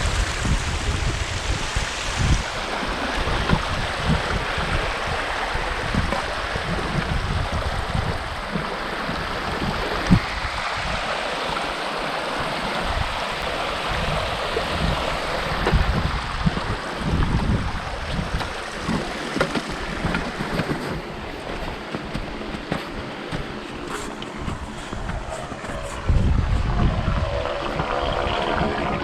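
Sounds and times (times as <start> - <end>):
running water rushing: 0.0 - 29.0
wind on microphone: 0.0 - 29.0.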